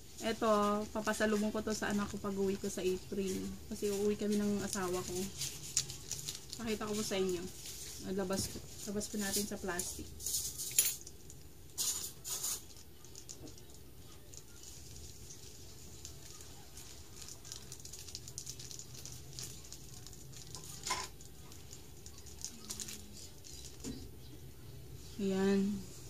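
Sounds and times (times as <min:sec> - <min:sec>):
plastic bag crinkling: 0:00.0 - 0:24.3.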